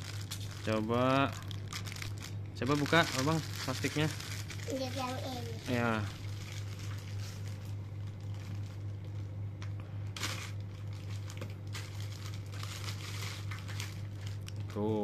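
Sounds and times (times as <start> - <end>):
plastic bag crinkling: 0.0 - 9.4, 10.1 - 15.0
steady low hum: 0.0 - 15.0.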